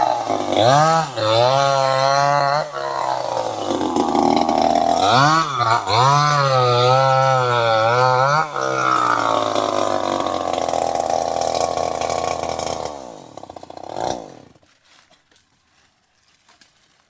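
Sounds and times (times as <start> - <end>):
chainsaw engine running: 0.0 - 14.7.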